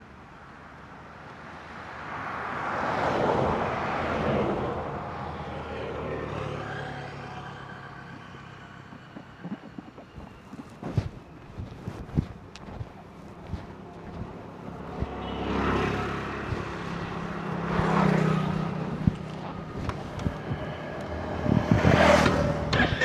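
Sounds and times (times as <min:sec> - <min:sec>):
motor vehicle passing: 0:02.2 - 0:23.0.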